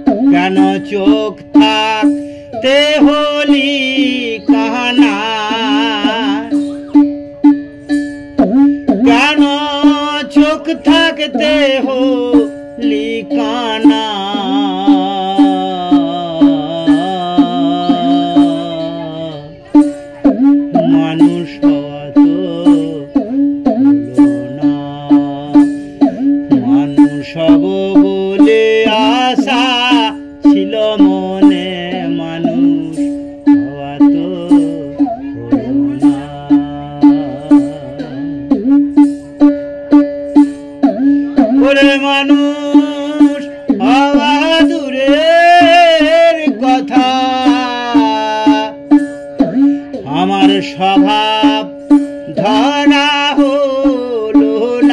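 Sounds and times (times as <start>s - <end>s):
person singing melody: 0.0s - 54.9s
plucked strings: 0.0s - 54.9s.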